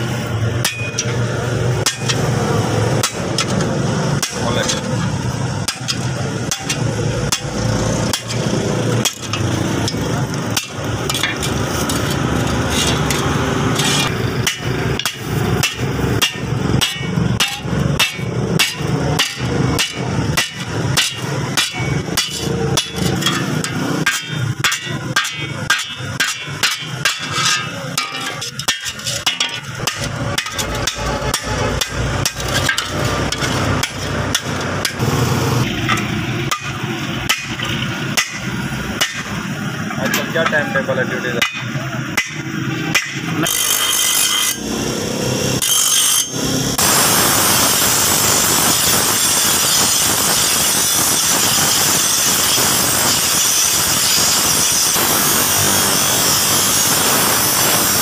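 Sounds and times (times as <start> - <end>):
hammer striking steel on anvil: 0.3 - 44.8, 45.6 - 57.7.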